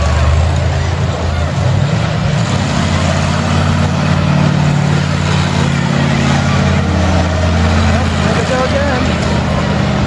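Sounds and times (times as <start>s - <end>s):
truck engine droning: 0.0s - 10.0s.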